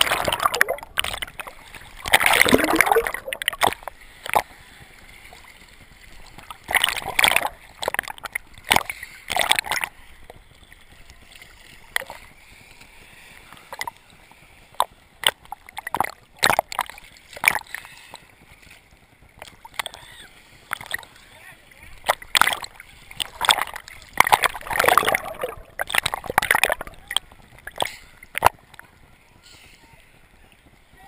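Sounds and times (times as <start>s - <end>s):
low steady wash of water: 0.0s - 31.0s
surf splashing: 0.0s - 31.0s.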